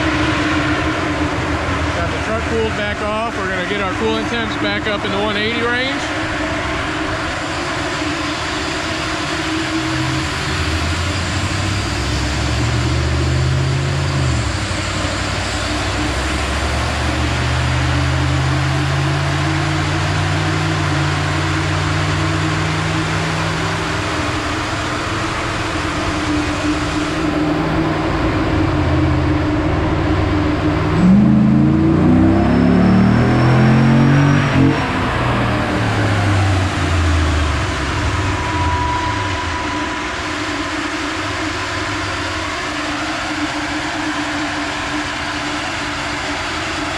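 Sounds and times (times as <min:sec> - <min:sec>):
engine running with wandering pitch: 0:00.0 - 0:46.9
steady rushing noise: 0:00.0 - 0:46.9.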